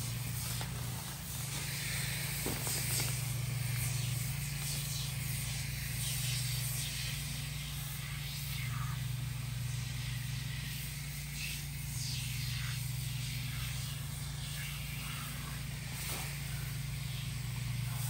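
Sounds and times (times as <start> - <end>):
aerosol can spraying: 0.0 - 18.0
steady low hum: 0.0 - 18.0.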